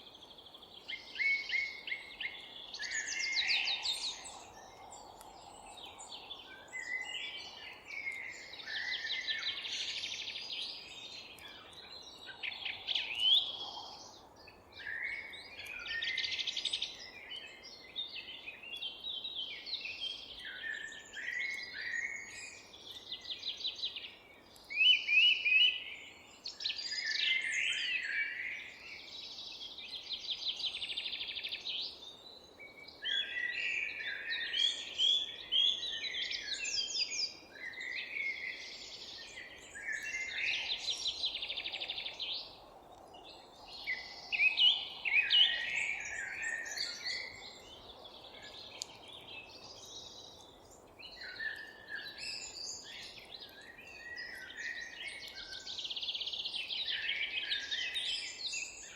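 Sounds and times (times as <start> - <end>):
songbirds singing and calling: 0.0 - 58.9.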